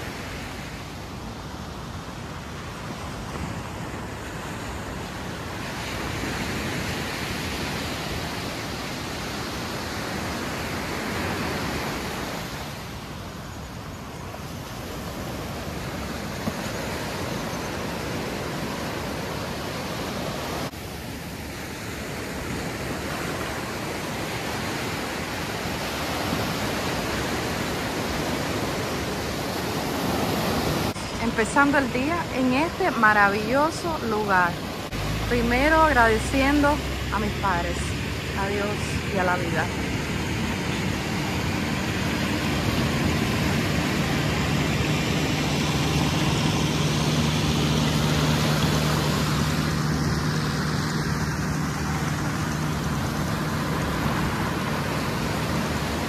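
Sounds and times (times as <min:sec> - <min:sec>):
small waves breaking on sand: 0:00.0 - 0:56.0.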